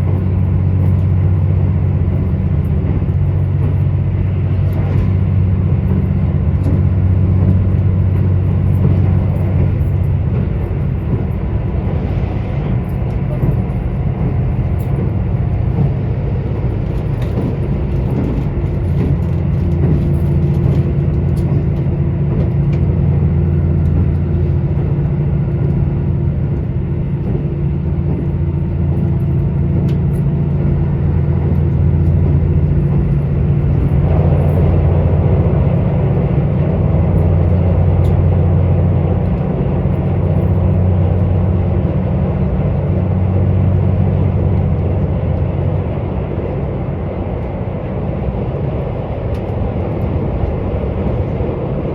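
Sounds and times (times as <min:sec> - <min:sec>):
diesel engine drone: 0:00.0 - 0:51.9
rushing rumble: 0:00.0 - 0:51.9
wheel and rail noise: 0:00.0 - 0:51.9.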